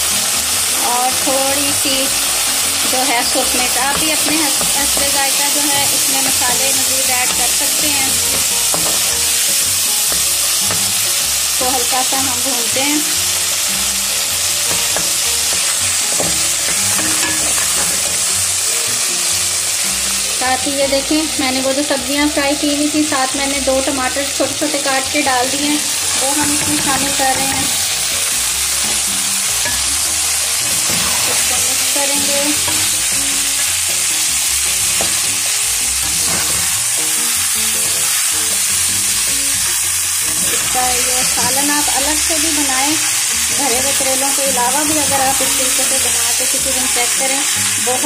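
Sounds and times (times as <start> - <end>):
minced meat sizzling in oil: 0.0 - 48.0
metal spoon scraping a pan: 0.5 - 18.6, 24.4 - 48.0.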